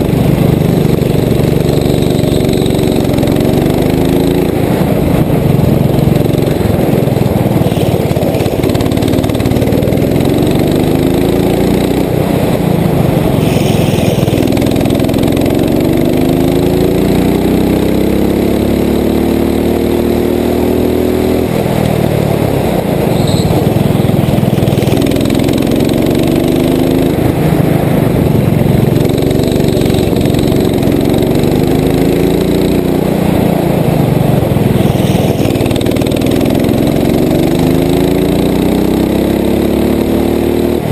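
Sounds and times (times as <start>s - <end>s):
go-kart engine accelerating: 0.0s - 40.9s.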